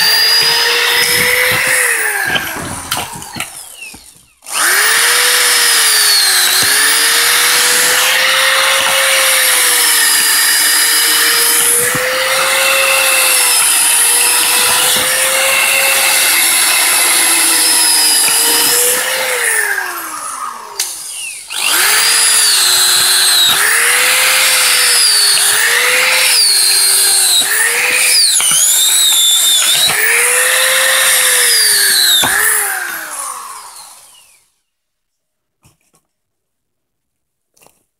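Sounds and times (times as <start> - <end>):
cordless drill motor whining: 0.0 - 34.5.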